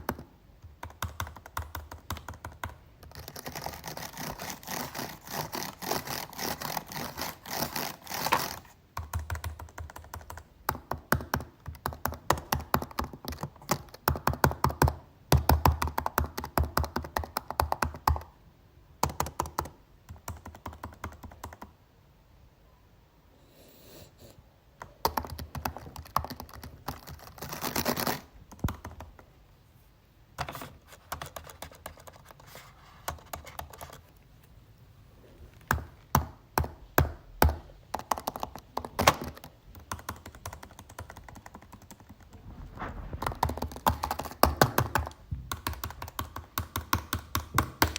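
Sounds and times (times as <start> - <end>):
typing on computer keyboard: 0.0 - 18.3, 19.0 - 21.8, 24.8 - 29.3, 30.4 - 34.1, 35.7 - 42.4, 43.4 - 47.9.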